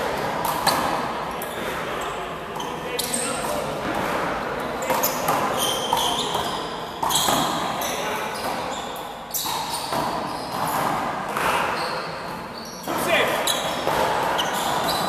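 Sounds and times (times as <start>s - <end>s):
handball smacking wall and floor: 0.0s - 1.8s, 3.5s - 8.7s, 9.4s - 15.0s.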